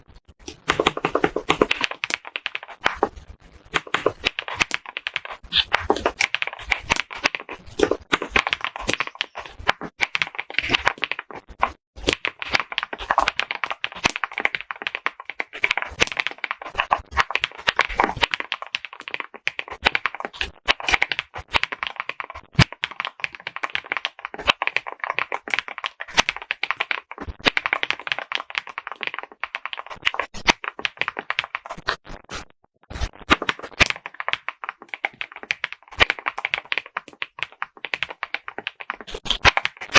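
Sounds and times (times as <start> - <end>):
mechanical keyboard typing: 0.4 - 32.0, 33.2 - 39.9.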